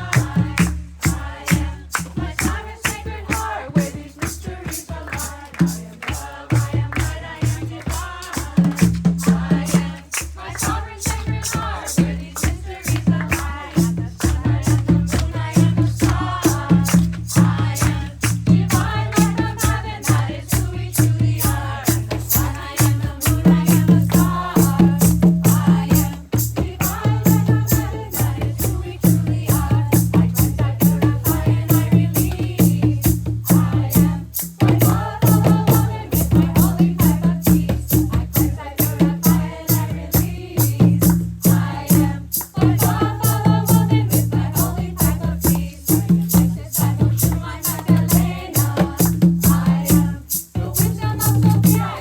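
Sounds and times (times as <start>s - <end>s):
rattle shaken in a beat: 0.0s - 52.0s
voices singing: 0.0s - 52.0s.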